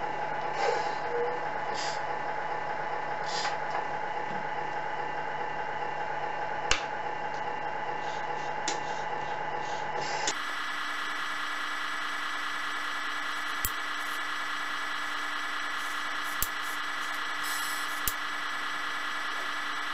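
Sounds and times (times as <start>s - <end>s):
truck engine idle from small speaker: 0.0s - 19.9s.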